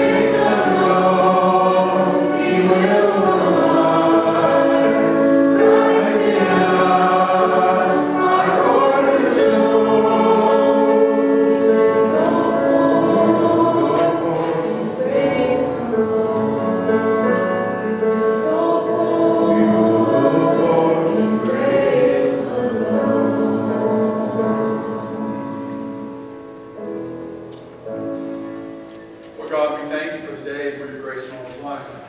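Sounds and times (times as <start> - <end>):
voices singing in harmony: 0.0 - 26.3.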